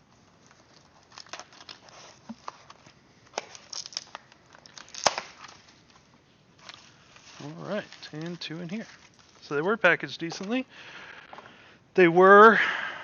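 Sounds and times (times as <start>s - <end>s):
packing material rustling: 0.0s - 10.7s.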